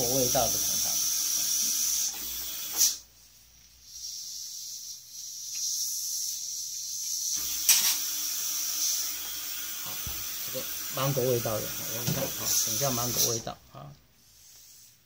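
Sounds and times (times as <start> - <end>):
dental suction hiss: 0.0 - 13.5.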